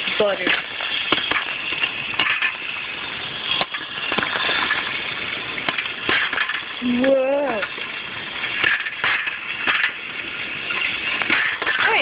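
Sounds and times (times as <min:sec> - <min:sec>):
popcorn popping: 0:00.0 - 0:12.0.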